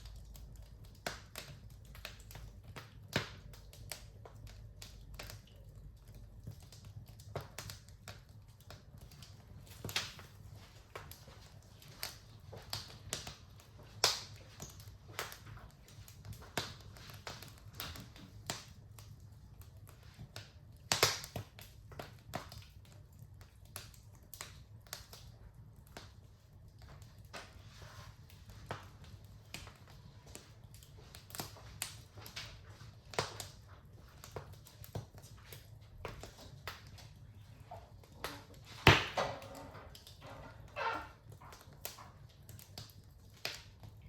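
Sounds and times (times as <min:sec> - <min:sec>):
wood fire crackling and popping: 0:00.0 - 0:44.0.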